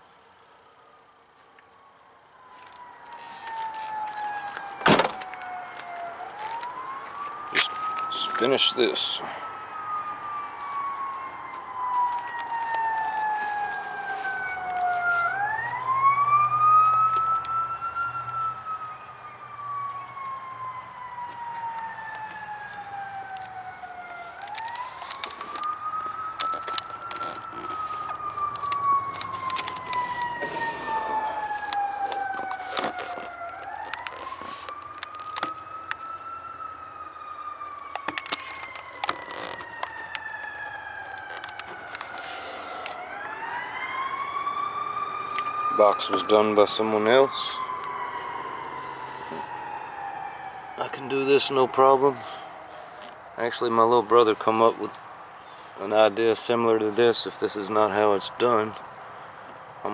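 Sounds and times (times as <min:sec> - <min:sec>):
siren wailing: 0:01.8 - 0:58.8.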